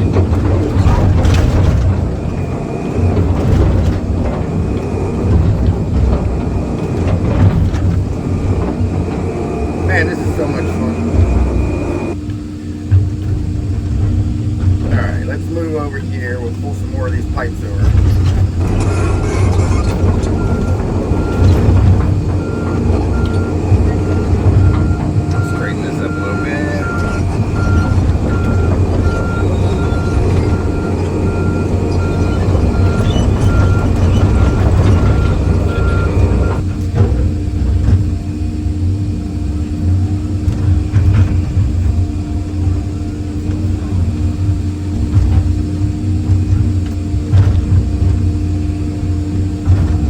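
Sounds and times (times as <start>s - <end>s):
excavator diesel engine: 0.0s - 50.0s.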